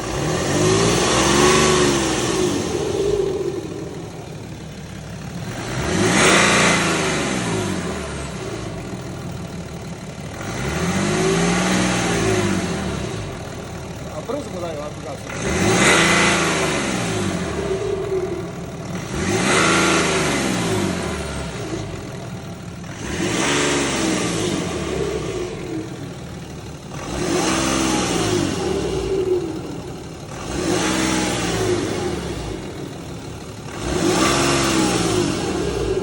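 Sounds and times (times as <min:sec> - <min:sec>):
diesel engine revving: 0:00.0 - 0:36.0
unexplained engine noise: 0:00.0 - 0:36.0.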